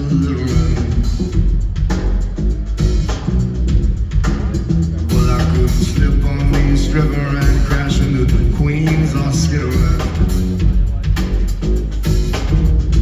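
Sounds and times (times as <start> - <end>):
heavy bass line: 0.0 - 13.0
steady drum beat: 0.0 - 13.0.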